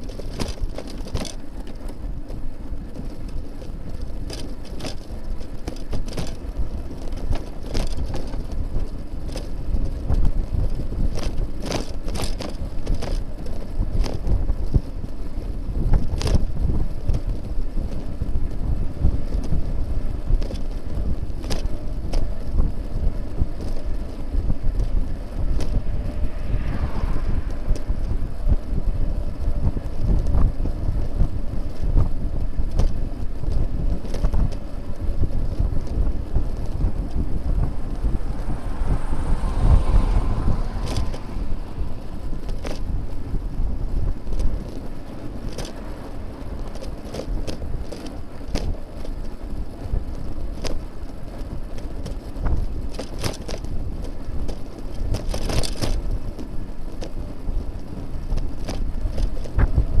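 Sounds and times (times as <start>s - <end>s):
bike rattles and knocks: 0.0s - 60.0s
wind buffeting microphone: 0.0s - 60.0s
motor vehicle passing: 5.0s - 60.0s.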